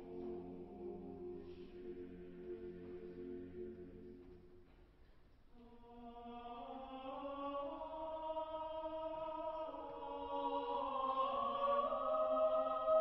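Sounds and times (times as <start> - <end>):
choir chanting long notes: 0.0 - 4.4, 5.6 - 13.0.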